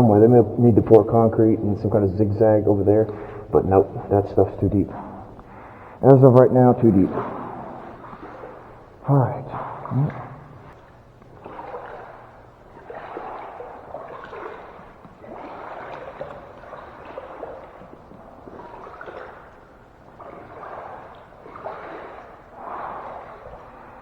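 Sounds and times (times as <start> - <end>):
wading through water: 0.0 - 24.0.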